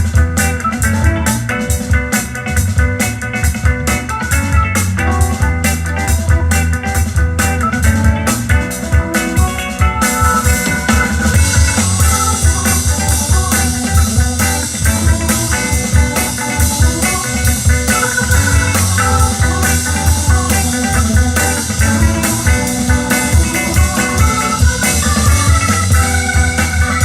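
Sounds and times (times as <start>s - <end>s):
rock music with guitar and drums: 0.0s - 27.0s.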